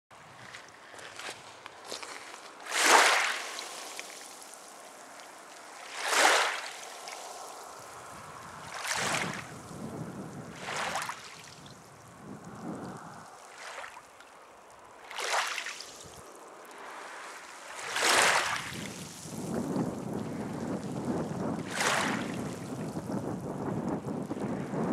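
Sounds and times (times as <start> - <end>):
small waves washing onto shore: 0.2 - 24.9.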